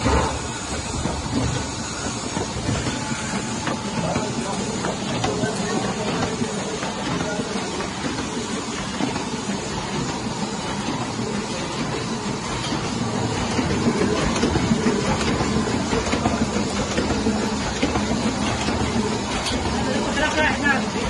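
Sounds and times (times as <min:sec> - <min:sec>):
printing press clattering: 0:00.0 - 0:21.0.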